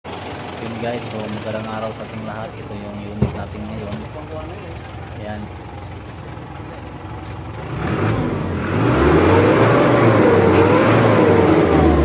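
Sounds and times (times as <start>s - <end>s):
diesel engine revving: 0.1s - 12.0s.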